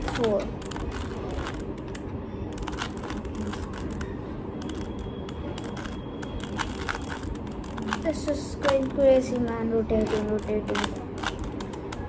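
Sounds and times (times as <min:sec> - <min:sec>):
puzzle cube clicking: 0:00.0 - 0:12.0.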